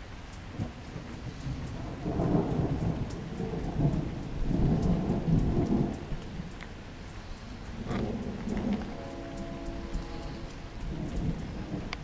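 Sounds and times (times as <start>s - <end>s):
steady rain: 0.0s - 12.0s
thunder rumbling: 0.5s - 12.0s.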